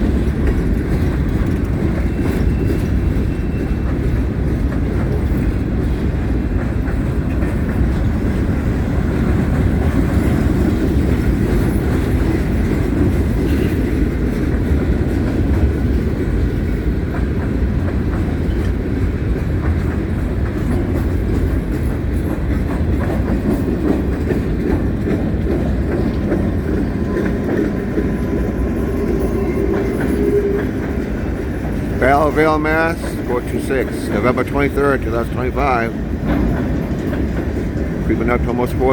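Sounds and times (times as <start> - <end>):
freight train rumbling past: 0.0 - 38.9
wheels clicking over rails: 0.0 - 38.9.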